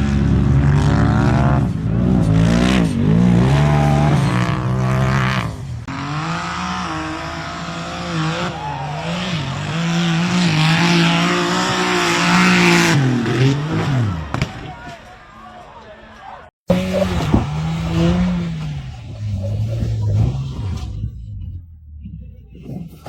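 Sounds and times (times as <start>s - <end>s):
engine revving hard: 0.0s - 14.5s, 16.7s - 21.5s.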